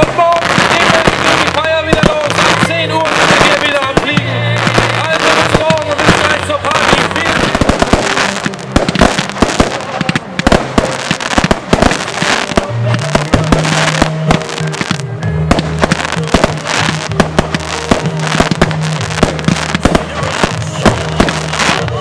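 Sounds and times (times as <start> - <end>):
background music: 0.0 - 22.0
fireworks bangs and crackles: 0.0 - 22.0.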